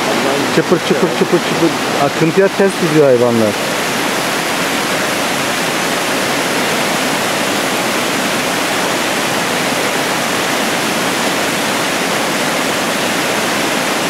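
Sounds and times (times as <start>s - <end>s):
creek rushing over rocks: 0.0s - 14.0s.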